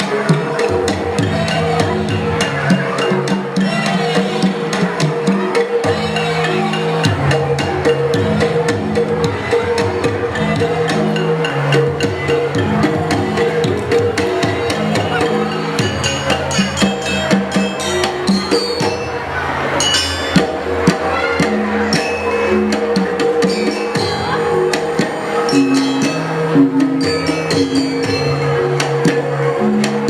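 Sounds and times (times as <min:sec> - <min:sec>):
held melody notes: 0:00.0 - 0:30.0
sharp percussion strikes: 0:00.0 - 0:30.0.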